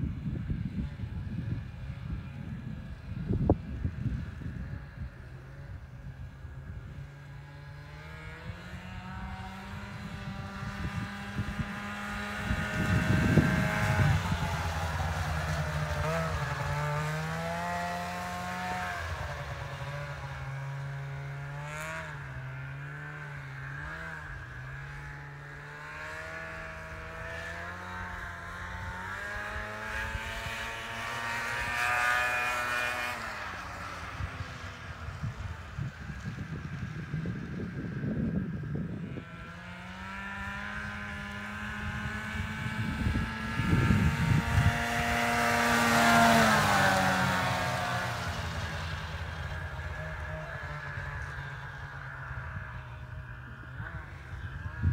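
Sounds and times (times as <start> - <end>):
snowmobile engine running: 0.0 - 54.9.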